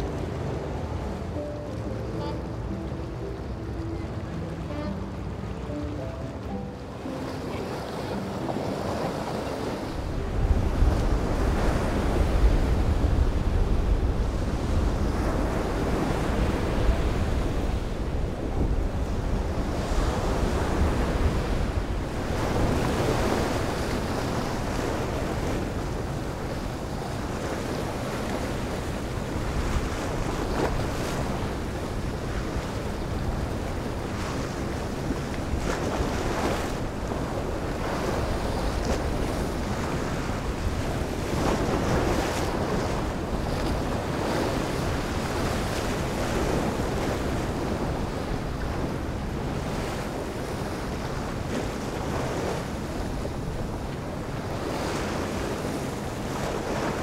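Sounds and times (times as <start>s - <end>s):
ocean surf washing in: 0.0s - 57.0s
wind buffeting microphone: 0.0s - 57.0s.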